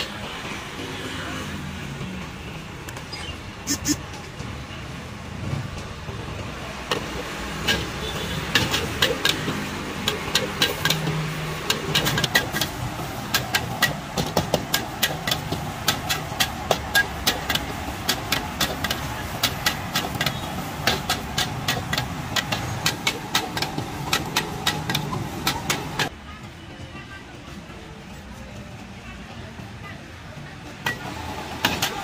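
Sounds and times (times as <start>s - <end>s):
steady background rush: 0.0s - 32.0s.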